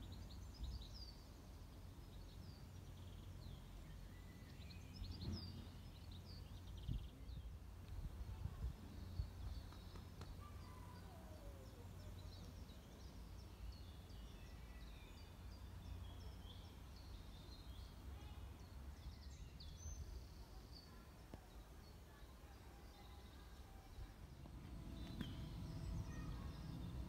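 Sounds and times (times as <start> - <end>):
faint low rumble: 0.0 - 27.0
songbirds singing: 0.0 - 27.0.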